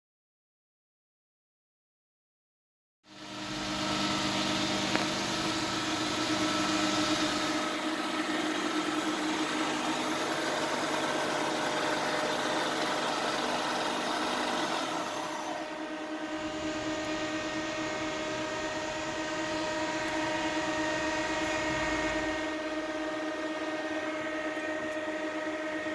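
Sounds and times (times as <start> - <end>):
machine humming with tones: 3.1 - 25.9.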